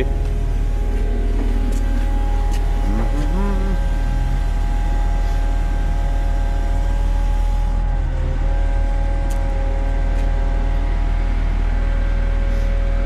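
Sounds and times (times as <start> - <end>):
hydraulic whine: 0.0 - 13.0
truck engine drone: 0.0 - 13.0.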